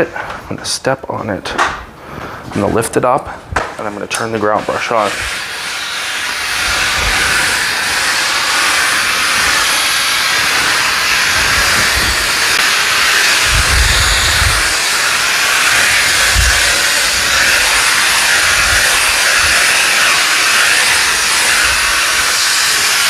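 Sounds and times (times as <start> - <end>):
steam cleaner hissing: 3.9 - 23.0.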